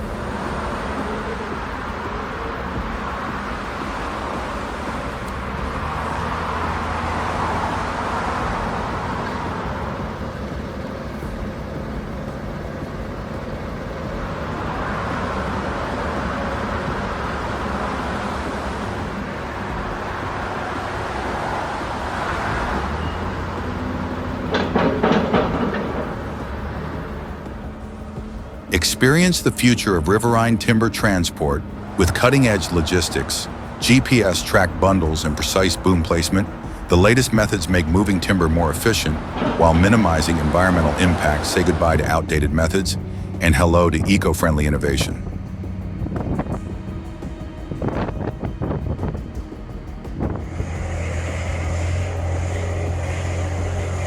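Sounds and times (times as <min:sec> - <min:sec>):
truck diesel engine running: 0:00.0 - 0:54.0
tyre and road noise: 0:00.0 - 0:54.0.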